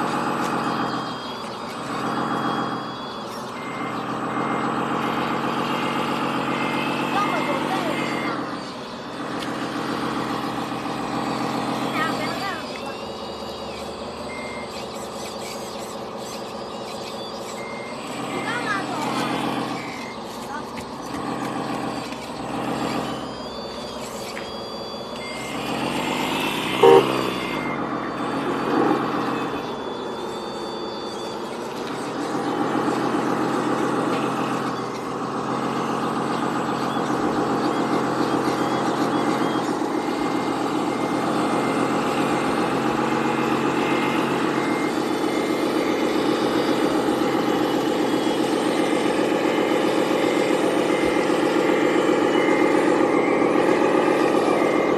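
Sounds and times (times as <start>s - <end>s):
faint regular beeping: 0.0s - 54.9s
wheel loader engine drone: 0.0s - 54.9s.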